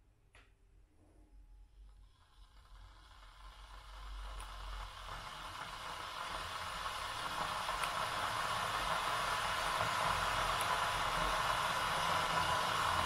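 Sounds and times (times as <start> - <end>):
electric kettle hissing: 1.7 - 13.0.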